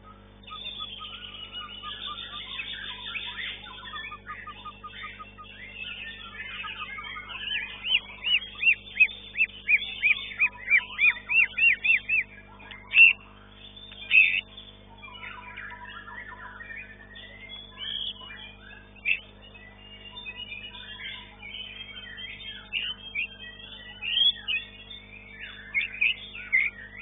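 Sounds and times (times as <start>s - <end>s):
bird singing whistled notes: 0.0s - 27.0s
steady low hum: 0.0s - 27.0s.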